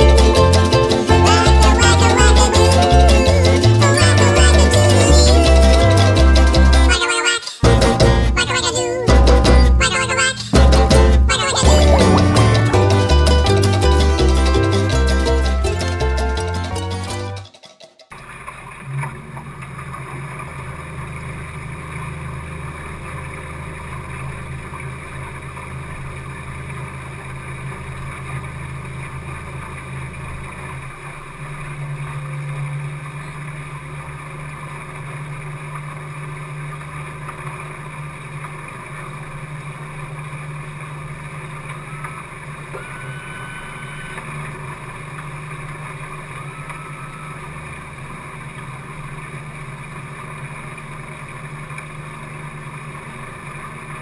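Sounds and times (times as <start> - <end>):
outboard motor running: 0.0 - 17.5, 18.7 - 54.0
water rushing: 0.0 - 17.5, 18.1 - 54.0.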